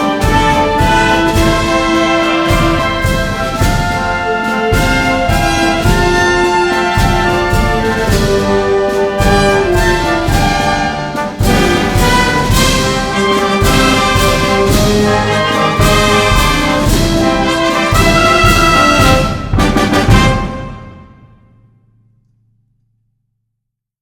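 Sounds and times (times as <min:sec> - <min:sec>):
wind band playing a march: 0:00.0 - 0:21.4
drum strokes: 0:00.0 - 0:22.2.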